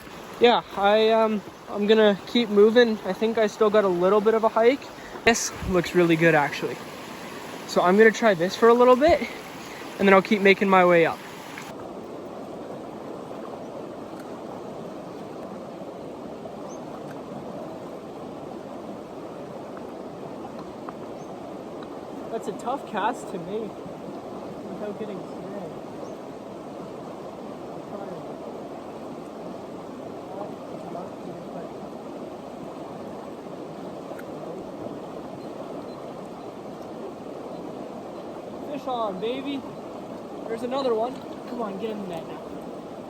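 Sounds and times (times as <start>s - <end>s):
creek water flowing: 0.0s - 43.0s.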